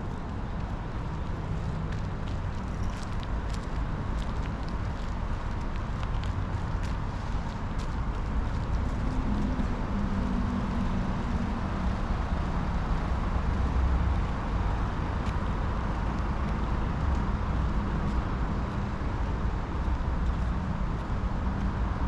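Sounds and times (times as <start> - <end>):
low engine hum: 0.0 - 22.0
road traffic noise: 0.0 - 22.0.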